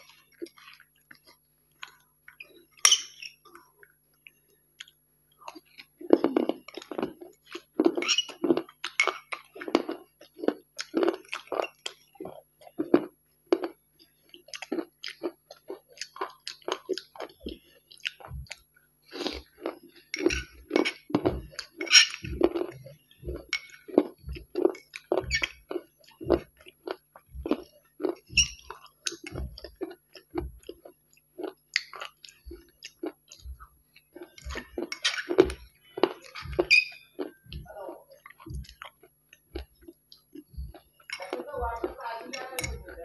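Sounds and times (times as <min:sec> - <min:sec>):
crunchy chewing: 0:00.0 - 0:41.5.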